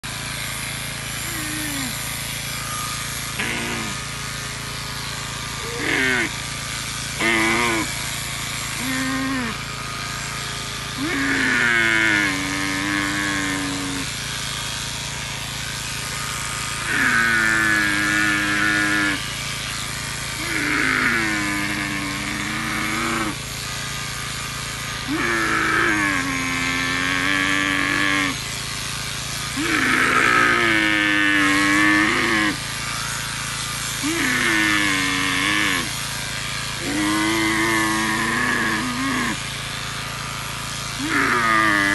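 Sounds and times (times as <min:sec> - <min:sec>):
electric clippers buzzing: 0:00.0 - 0:41.9
camel groaning: 0:01.1 - 0:04.6, 0:05.2 - 0:15.4, 0:16.1 - 0:41.9.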